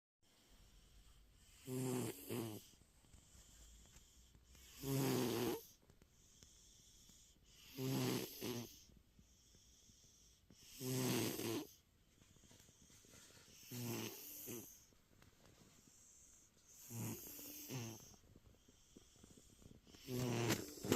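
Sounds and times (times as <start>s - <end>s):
cat snoring: 0.3s - 15.0s, 15.8s - 20.9s.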